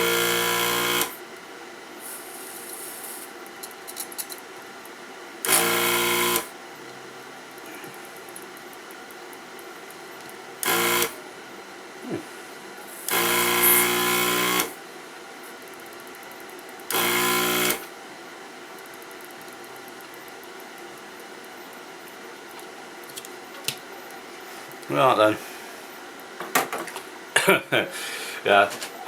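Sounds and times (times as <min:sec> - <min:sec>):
desoldering vacuum pump buzzing: 0:00.0 - 0:03.6, 0:04.6 - 0:26.5.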